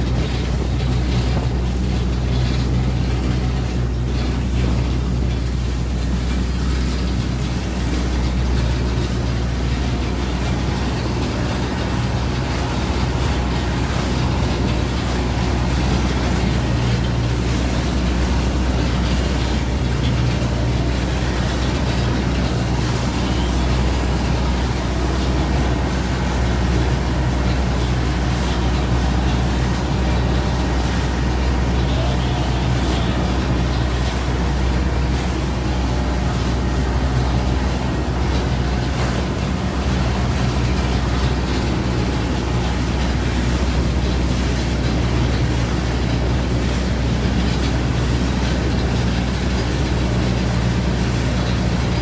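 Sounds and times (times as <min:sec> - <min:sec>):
boat engine droning: 0:00.0 - 0:52.0
water rushing: 0:00.0 - 0:52.0.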